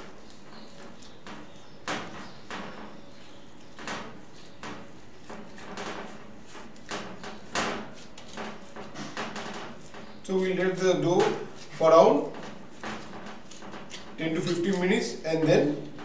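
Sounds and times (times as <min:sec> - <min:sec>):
dough slapping against glass bowl: 0:00.0 - 0:16.0.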